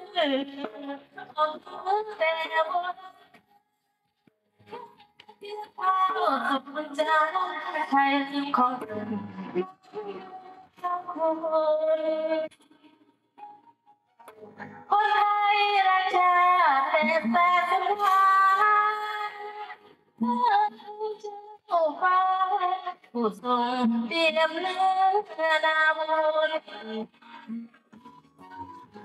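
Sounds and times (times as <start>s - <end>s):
woman singing into microphone: 0.0s - 3.1s, 4.7s - 12.5s, 14.8s - 27.7s.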